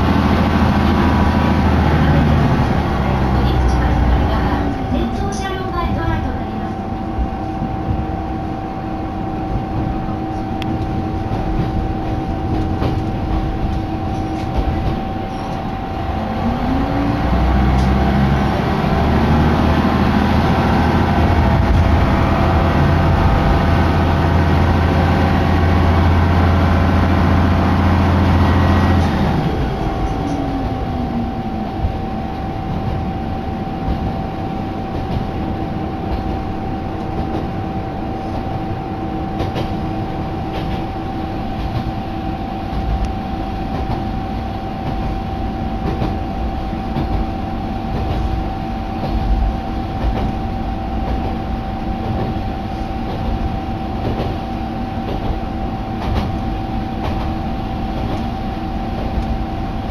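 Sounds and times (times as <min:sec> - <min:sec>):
diesel railcar engine: 0:00.0 - 0:59.9.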